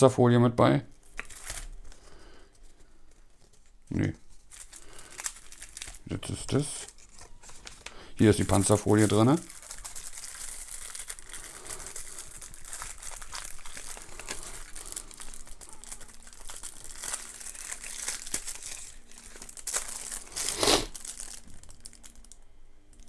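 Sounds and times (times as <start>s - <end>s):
plastic packaging crinkling: 0.9s - 23.0s.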